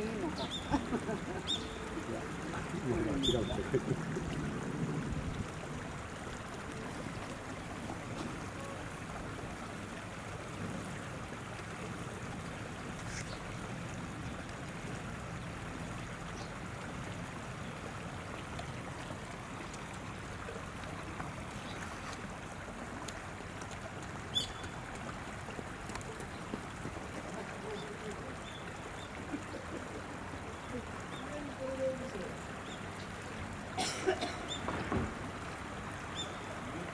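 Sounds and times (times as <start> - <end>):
river water running over stones: 0.0 - 36.9.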